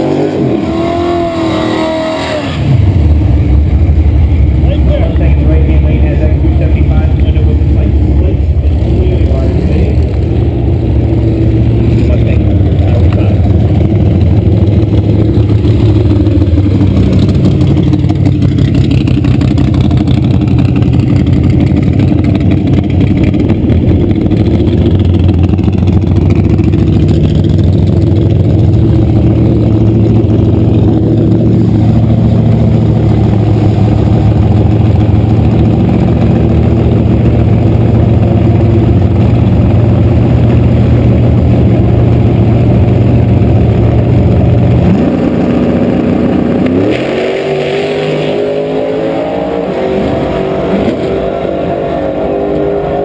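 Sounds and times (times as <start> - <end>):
drag car engine idling loudly: 2.6 - 46.9.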